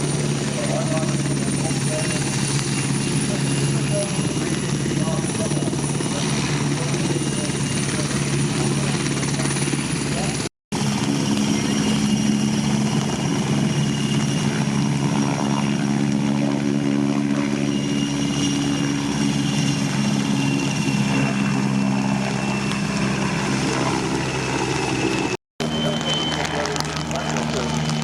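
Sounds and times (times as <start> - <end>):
helicopter rotor drone: 0.0 - 28.0
high turbine whine: 0.0 - 28.0.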